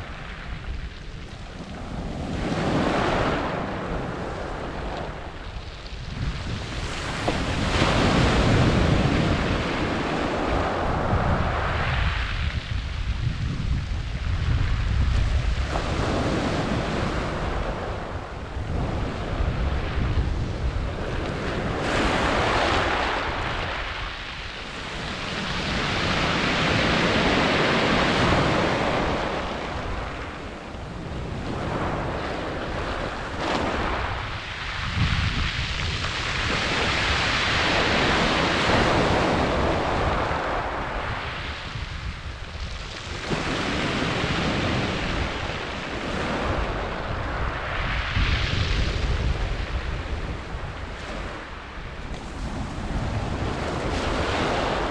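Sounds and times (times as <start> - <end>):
waves breaking on shingle beach: 0.0 - 54.9.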